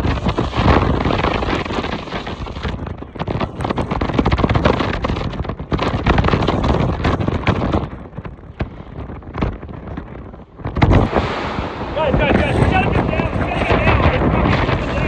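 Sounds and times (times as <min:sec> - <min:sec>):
strong gusty wind on microphone: 0:00.0 - 0:15.0.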